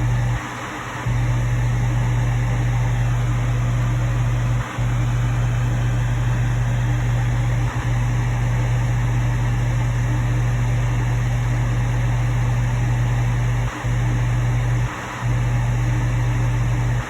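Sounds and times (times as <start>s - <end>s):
low hum: 0.0s - 0.4s, 1.1s - 17.0s
fan whirring: 0.0s - 17.0s.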